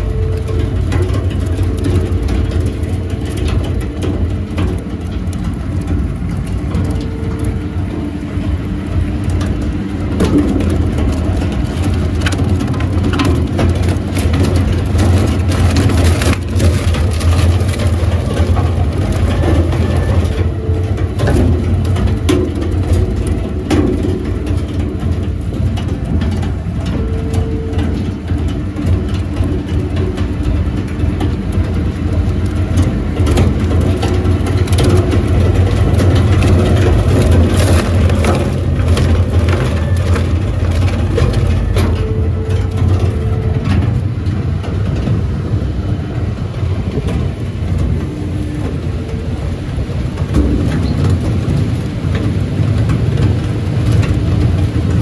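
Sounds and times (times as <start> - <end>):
wood shredder drone: 0.0 - 55.0.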